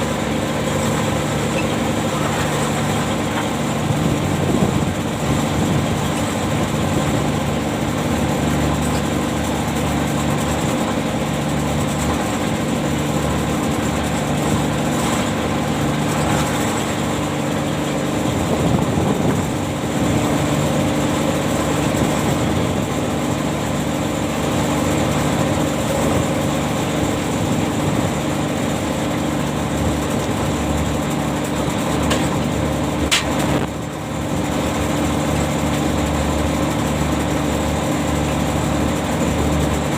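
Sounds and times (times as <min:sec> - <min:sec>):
ship's machinery humming: 0:00.0 - 0:39.9.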